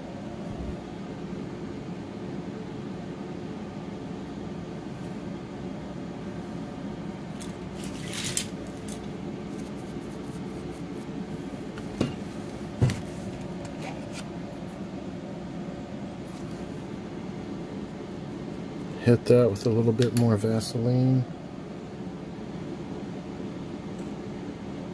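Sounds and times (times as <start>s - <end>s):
air conditioner humming: 0.0s - 24.9s.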